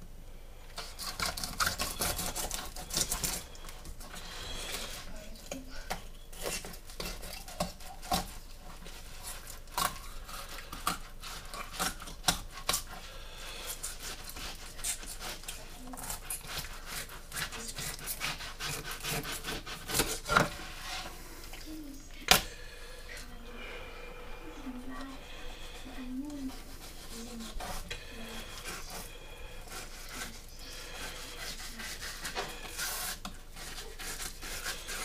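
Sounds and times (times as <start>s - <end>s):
knife scraping fish scales: 0.8s - 5.5s, 6.3s - 21.2s, 25.2s - 35.0s.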